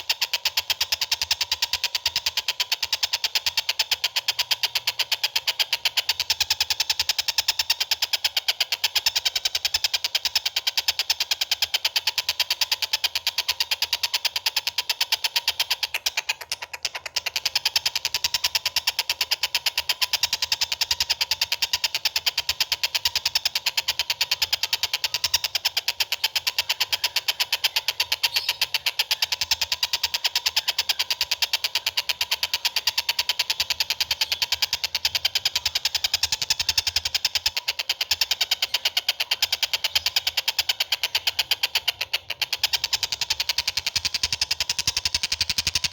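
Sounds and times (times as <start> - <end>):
songbird rapid chattering call: 0.0 - 45.9.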